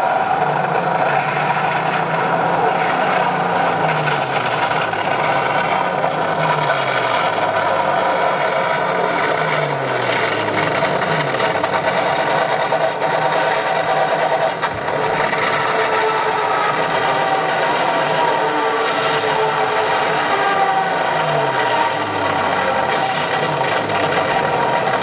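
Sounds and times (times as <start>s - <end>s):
ship engine running: 0.0s - 25.0s.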